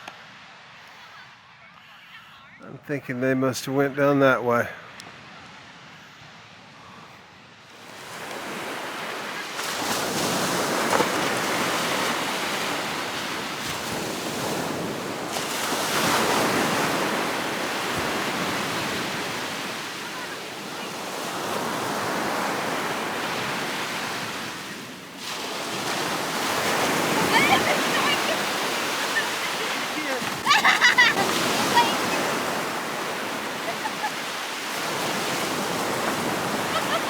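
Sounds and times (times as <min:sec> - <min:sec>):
surf breaking on a beach: 0:05.1 - 0:37.0.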